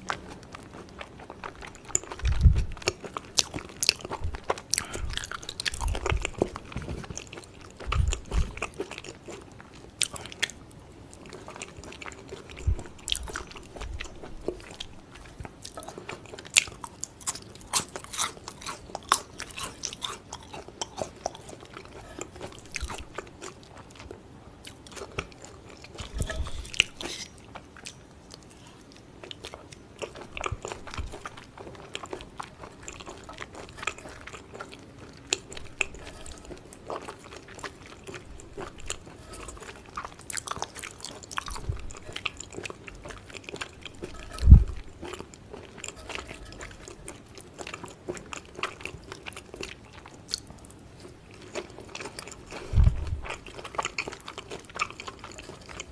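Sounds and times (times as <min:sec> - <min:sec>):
chewing and biting: 0:00.0 - 0:55.9.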